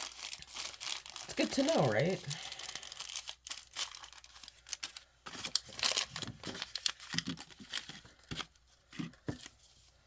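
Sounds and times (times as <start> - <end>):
crinkly packaging rustling: 0.0 - 10.0.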